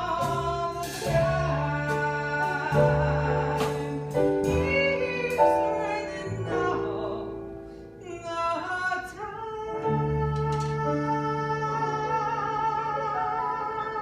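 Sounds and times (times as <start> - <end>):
woman singing with vibrato: 0.0 - 7.4, 8.0 - 14.0
instrumental accompaniment with bass: 0.0 - 14.0.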